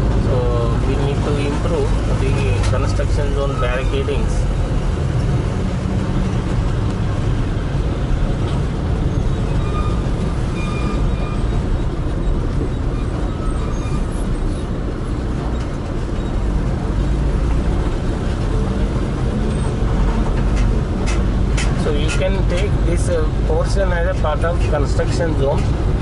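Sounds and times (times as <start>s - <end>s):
vehicle road rumble: 0.0s - 26.0s.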